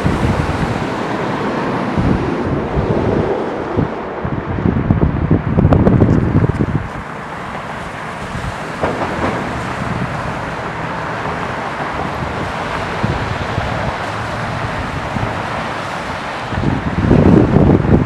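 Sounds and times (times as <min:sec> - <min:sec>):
distant airport and road traffic: 0:00.0 - 0:18.0
wind buffeting microphone: 0:00.0 - 0:18.0.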